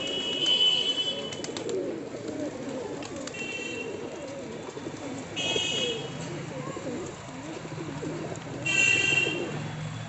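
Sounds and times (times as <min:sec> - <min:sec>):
pigeons cooing: 0:00.0 - 0:09.7.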